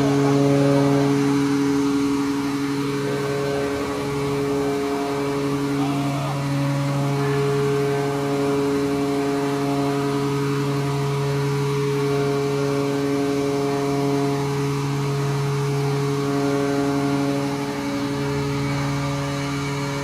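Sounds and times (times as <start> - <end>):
hydraulic pumps humming: 0.0 - 20.0.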